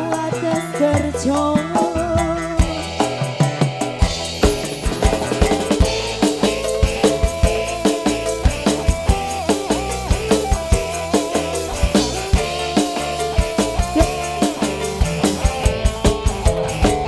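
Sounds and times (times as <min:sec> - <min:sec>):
live band instrumental music: 0:00.0 - 0:17.0.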